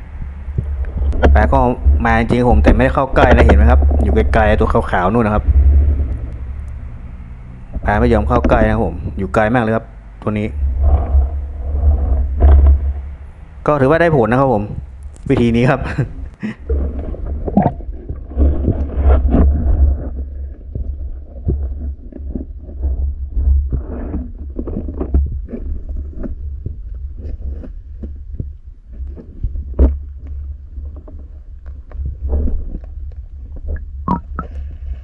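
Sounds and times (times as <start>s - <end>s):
muffled underwater rumble: 0.0s - 35.0s.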